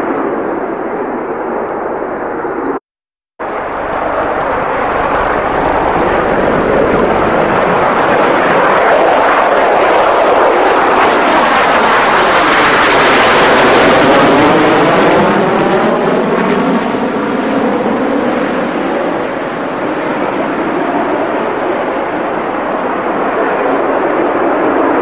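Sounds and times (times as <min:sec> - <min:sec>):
jet aircraft flypast roar: 0:00.0 - 0:02.8, 0:03.4 - 0:25.0.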